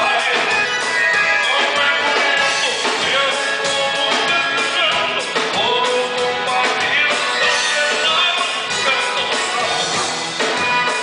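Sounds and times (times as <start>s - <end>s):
band playing a steady beat: 0.0s - 11.0s
button accordion: 0.0s - 11.0s.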